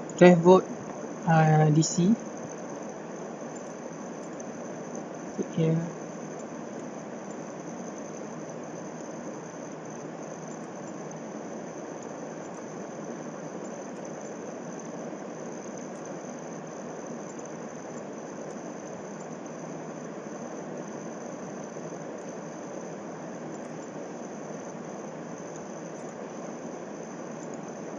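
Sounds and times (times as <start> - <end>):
background hiss: 0.0 - 27.9
faint high-pitched whine: 0.0 - 27.9.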